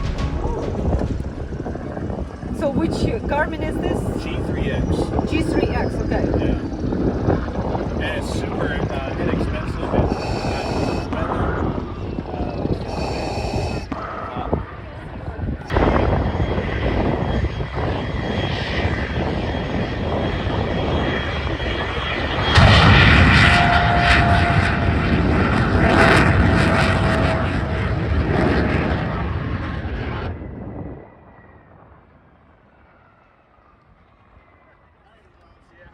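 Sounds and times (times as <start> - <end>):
propeller aircraft engine: 0.0 - 35.9.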